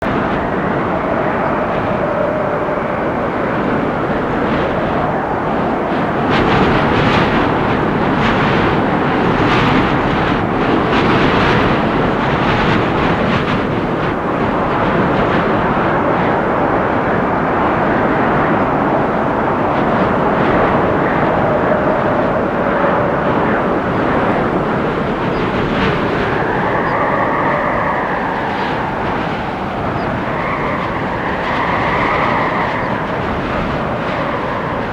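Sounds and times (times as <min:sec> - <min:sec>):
faint wind whistling: 0:00.0 - 0:34.9
wind rushing through trees: 0:00.0 - 0:34.9.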